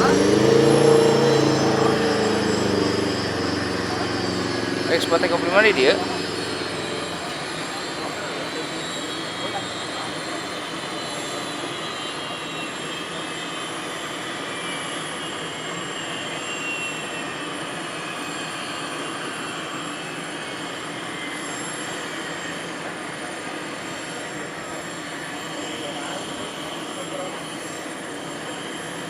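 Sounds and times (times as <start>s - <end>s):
turboprop aircraft engines running: 0.0s - 29.0s.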